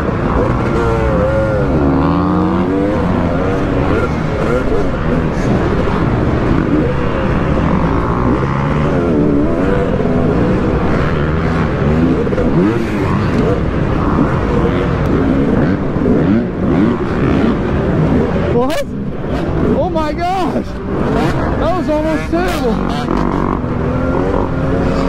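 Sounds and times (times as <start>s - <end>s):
dirt bike engine revving: 0.0s - 25.0s
other motorbike engines: 0.0s - 25.0s.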